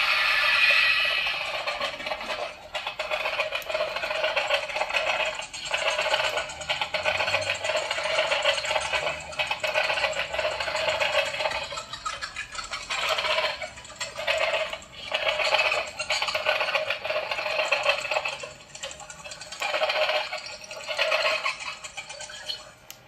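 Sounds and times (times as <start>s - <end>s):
mechanical motor rattle: 0.0s - 22.7s.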